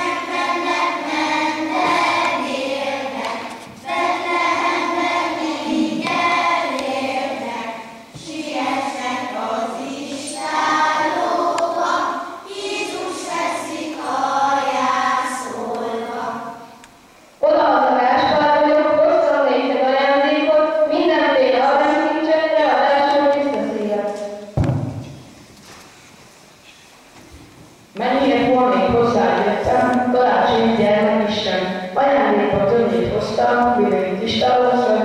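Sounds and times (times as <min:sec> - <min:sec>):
children singing a hymn: 0:00.0 - 0:16.8, 0:17.5 - 0:24.6, 0:28.0 - 0:35.0.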